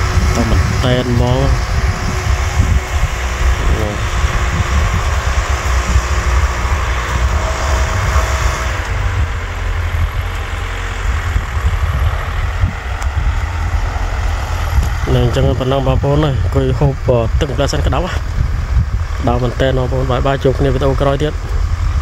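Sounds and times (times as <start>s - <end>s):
tractor diesel engine rumbling: 0.0s - 22.0s.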